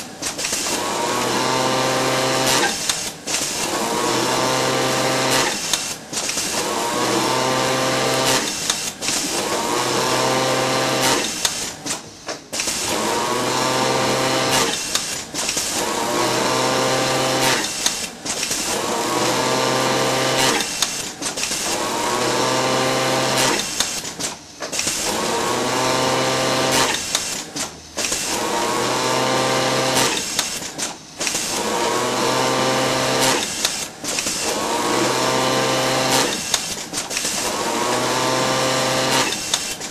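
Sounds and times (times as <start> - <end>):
industrial sewing machine running: 0.0 - 39.9.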